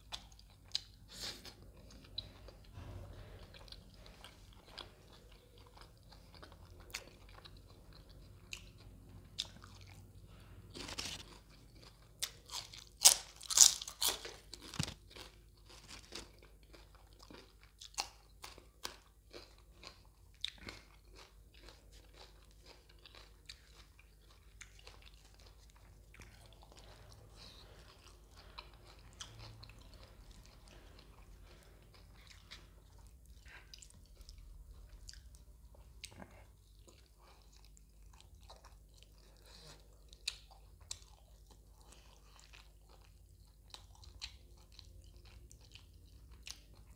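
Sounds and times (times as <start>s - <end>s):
person chewing with crunching bites: 0.0s - 46.9s.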